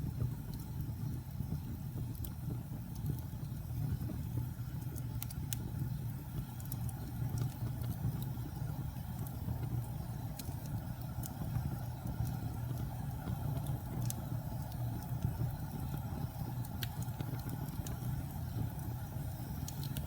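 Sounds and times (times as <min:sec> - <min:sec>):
fire crackles and pops: 0:00.0 - 0:20.0
wood fire rumble: 0:00.0 - 0:20.0.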